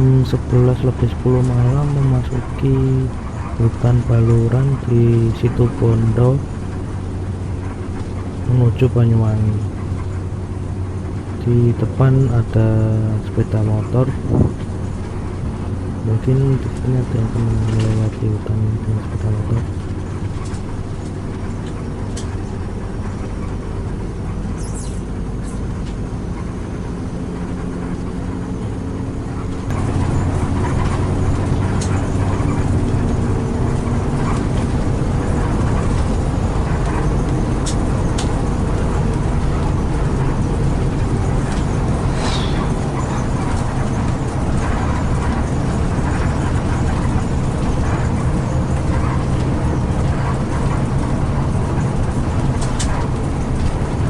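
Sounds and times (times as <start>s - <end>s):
coach engine hum: 0.0s - 54.0s
road rumble: 0.0s - 54.0s.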